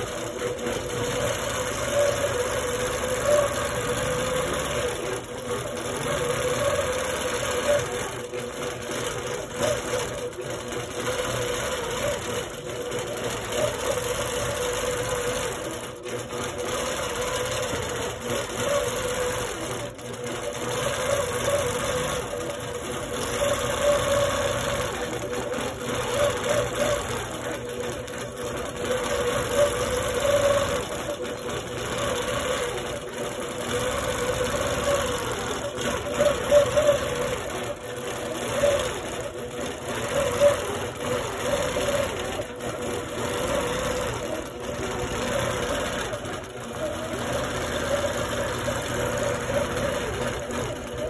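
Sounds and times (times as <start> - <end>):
quilting machine stitching: 0.0 - 51.0.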